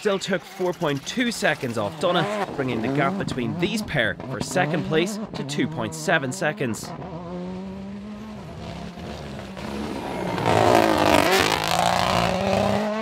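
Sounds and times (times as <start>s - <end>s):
rally car passing at speed: 1.5s - 13.0s.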